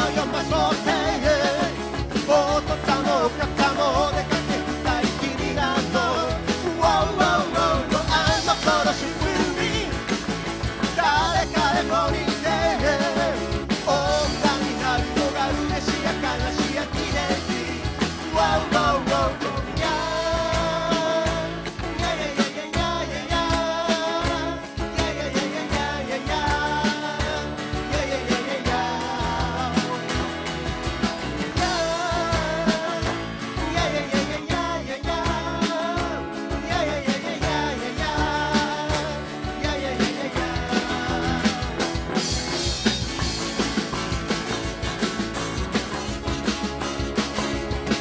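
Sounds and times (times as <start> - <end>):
acoustic guitars strummed: 0.0 - 48.0
men singing together: 0.0 - 48.0.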